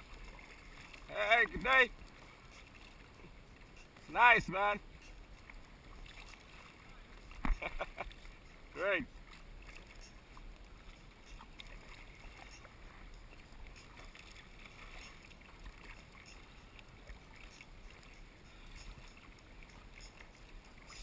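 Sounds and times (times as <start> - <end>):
paddle splashes and drips: 0.0 - 21.0.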